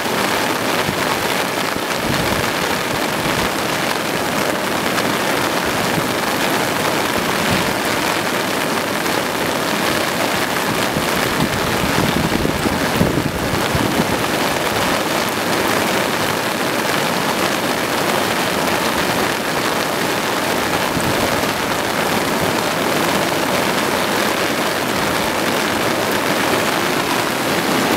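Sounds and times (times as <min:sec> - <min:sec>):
falling rain: 0:00.0 - 0:27.9
floodwater rushing: 0:00.0 - 0:27.9.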